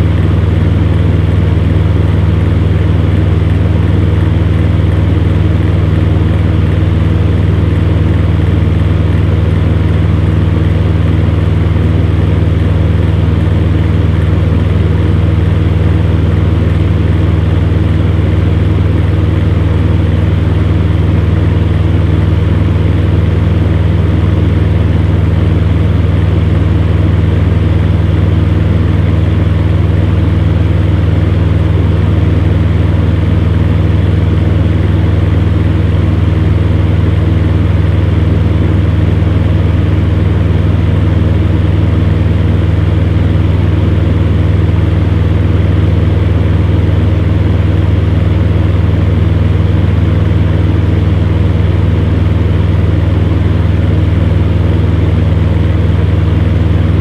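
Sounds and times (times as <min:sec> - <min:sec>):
fan heater humming and blowing: 0:00.0 - 0:57.0.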